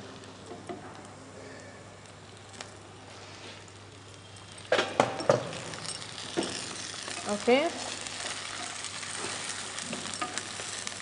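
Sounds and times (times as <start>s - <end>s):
oil sizzling in a clay pot: 0.0s - 11.0s.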